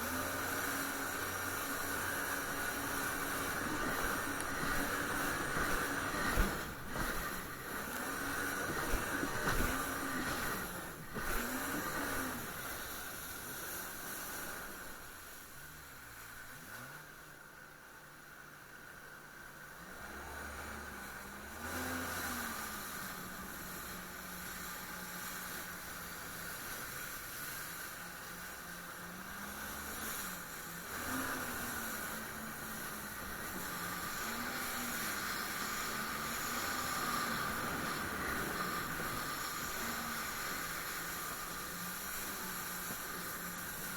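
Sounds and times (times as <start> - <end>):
wind and spray noise: 0.0 - 17.3, 19.8 - 43.9
jet ski engine: 0.0 - 43.9.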